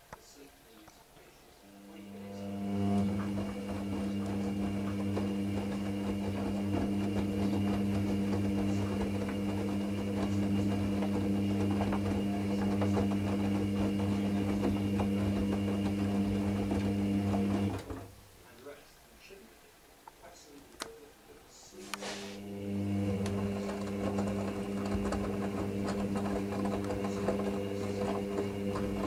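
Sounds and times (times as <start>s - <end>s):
washing machine drum motor humming: 1.7s - 18.4s, 21.8s - 29.0s.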